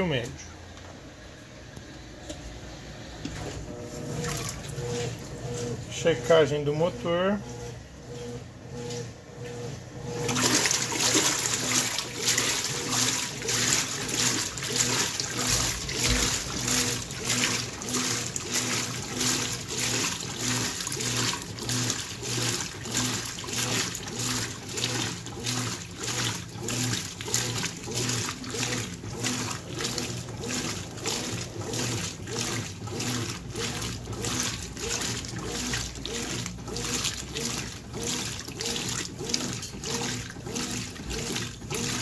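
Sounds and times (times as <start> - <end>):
low motor hum: 0.0 - 42.0
washing machine agitating: 0.0 - 42.0
water and clothes sloshing: 3.2 - 6.8, 7.5 - 42.0.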